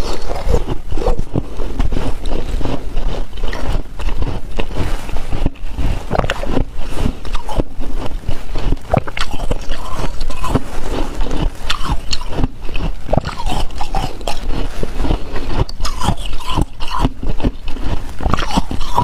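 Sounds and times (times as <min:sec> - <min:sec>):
ice crunching between teeth: 0:00.0 - 0:19.0.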